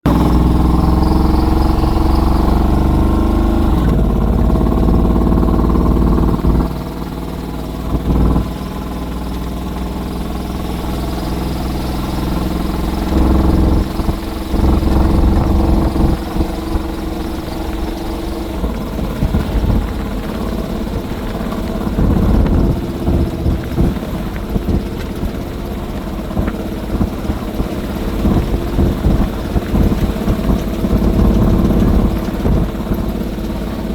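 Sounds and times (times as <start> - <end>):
loud car engine revving: 0.0 - 33.9.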